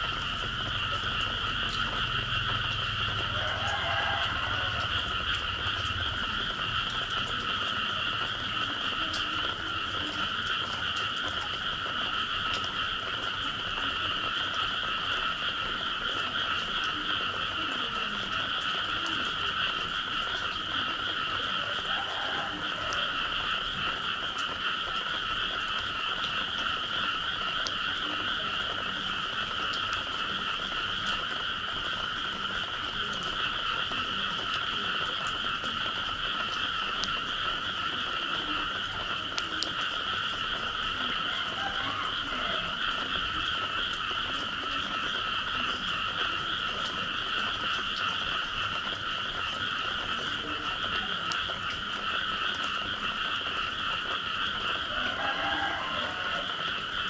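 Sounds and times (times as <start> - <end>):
chorus of frogs calling: 0.0 - 57.0.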